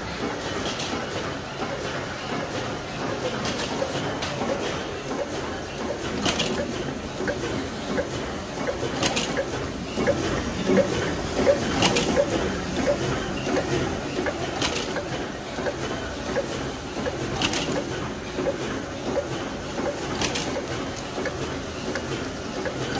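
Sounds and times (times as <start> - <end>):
label press mechanical knocking: 3.2 - 22.9.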